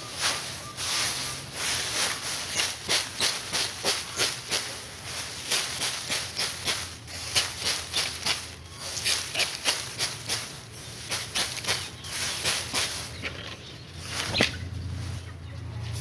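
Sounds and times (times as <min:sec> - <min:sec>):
dry stalks swishing and rattling: 0:00.0 - 0:16.0.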